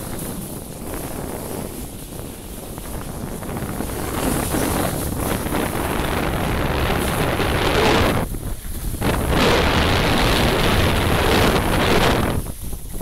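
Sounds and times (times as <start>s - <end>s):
skis scraping on snow: 0.0s - 13.0s
wind rushing over microphone: 0.0s - 13.0s.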